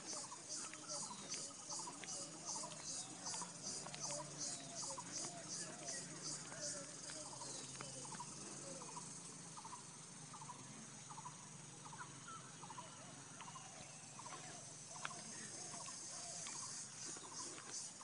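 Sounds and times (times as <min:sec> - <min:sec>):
insect chorus hiss: 0:00.0 - 0:18.0.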